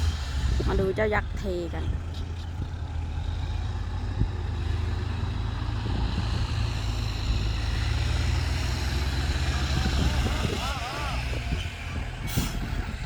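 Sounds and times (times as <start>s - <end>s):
dump truck diesel engine: 0.0s - 13.0s.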